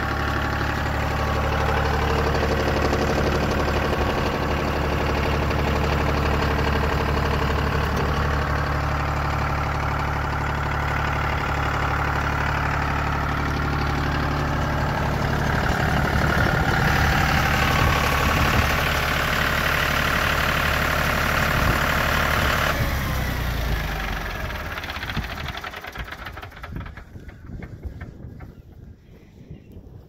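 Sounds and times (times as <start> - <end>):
tractor diesel engine idling: 0.0 - 29.5.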